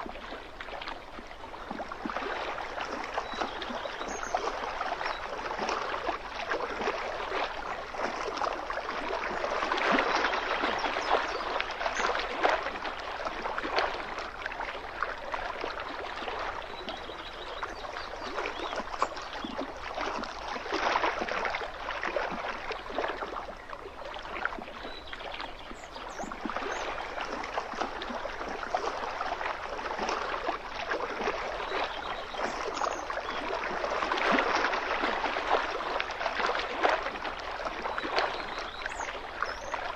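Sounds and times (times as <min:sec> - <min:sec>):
waves lapping on shore: 0:00.0 - 0:39.9.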